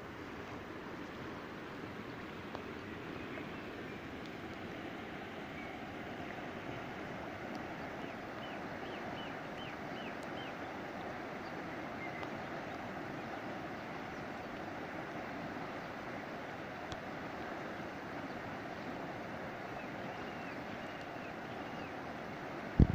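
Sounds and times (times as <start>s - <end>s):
river rushing over stones: 0.0s - 22.9s.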